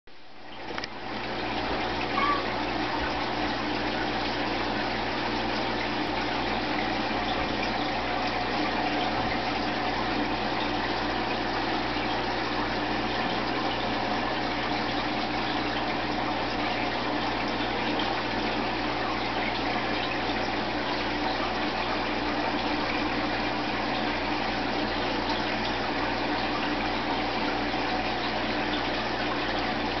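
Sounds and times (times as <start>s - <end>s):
faint motor hum: 0.1s - 30.0s
water rushing in aquarium filter: 0.1s - 30.0s.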